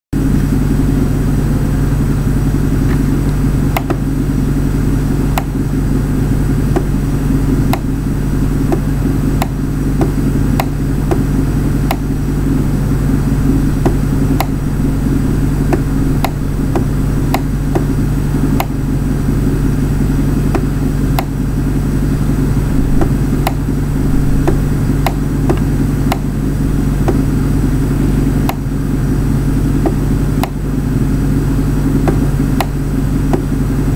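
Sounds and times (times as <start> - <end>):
loud low hum: 0.1 - 33.9.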